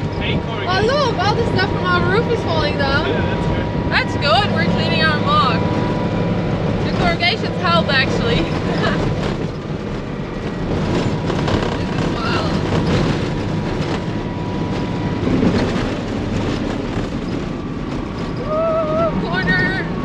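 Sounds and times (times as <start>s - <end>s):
body rattling and knocking: 0.0s - 20.0s
truck engine running: 0.0s - 20.0s.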